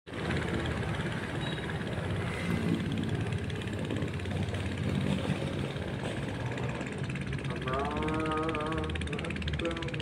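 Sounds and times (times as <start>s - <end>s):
large engine running: 0.1s - 10.0s.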